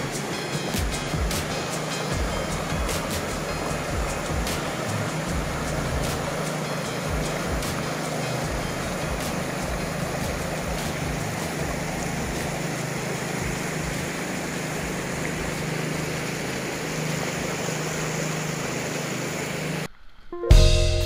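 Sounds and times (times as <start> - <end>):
rushing water: 0.0 - 19.9
outboard motor humming: 0.0 - 21.0.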